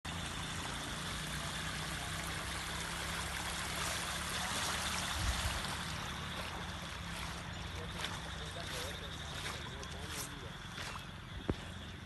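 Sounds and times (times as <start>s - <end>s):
floodwater rushing: 0.1s - 11.2s.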